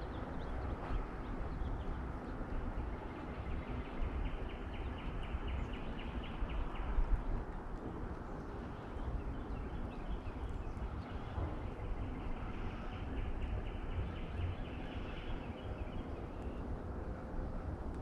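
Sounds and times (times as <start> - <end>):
wind rumble: 0.0 - 18.0.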